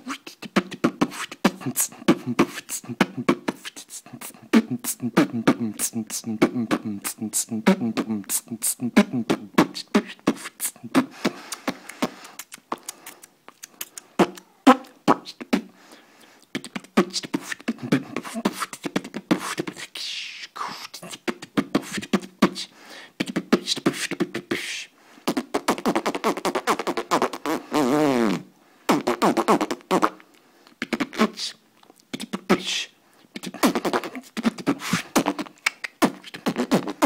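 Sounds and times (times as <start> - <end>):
person beatboxing: 0.0 - 37.0.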